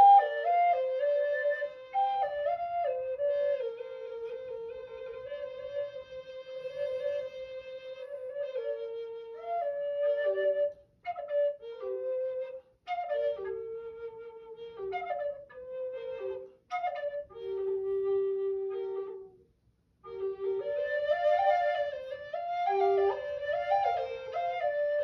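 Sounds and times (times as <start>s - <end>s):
flutes playing slow melody: 0.0s - 19.4s, 20.0s - 25.0s.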